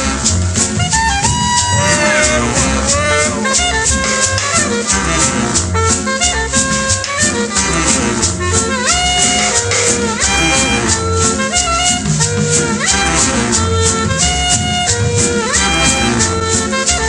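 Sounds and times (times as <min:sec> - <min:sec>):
brass-like lead melody: 0:00.0 - 0:17.0
pulsing bass: 0:00.0 - 0:17.0
shaker rhythm: 0:00.0 - 0:17.0.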